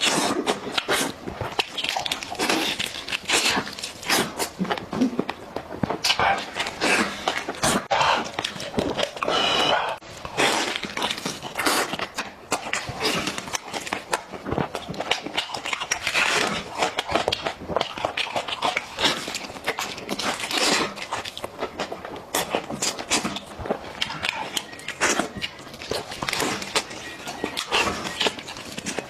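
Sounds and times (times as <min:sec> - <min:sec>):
man chewing and smacking: 0:00.0 - 0:29.0.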